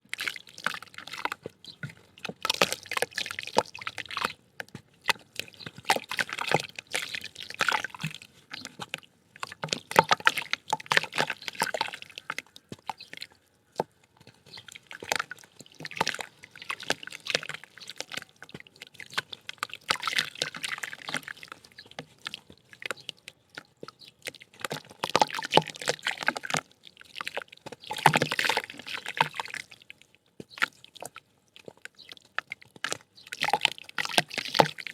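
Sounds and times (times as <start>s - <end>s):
water dripping: 0.1s - 34.9s
wet mud crackling: 0.1s - 34.9s.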